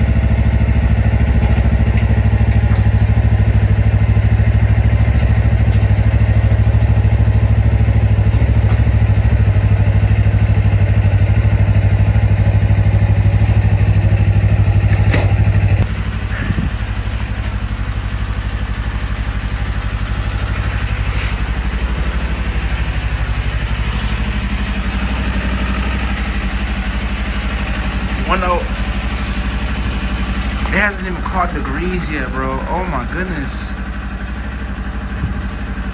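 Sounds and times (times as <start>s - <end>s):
motorcycle engine idling: 0.0s - 35.9s.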